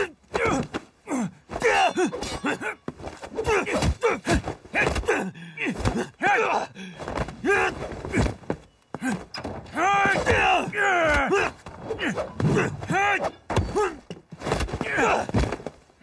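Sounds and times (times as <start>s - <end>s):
men grunting and crying out: 0.0s - 15.6s.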